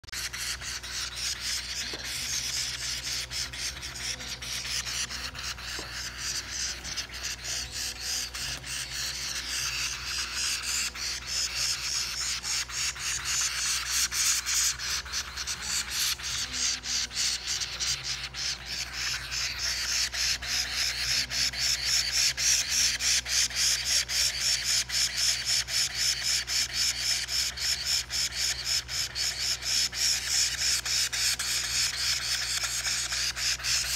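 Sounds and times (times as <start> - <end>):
parrot nestlings begging calls: 0.0 - 33.9.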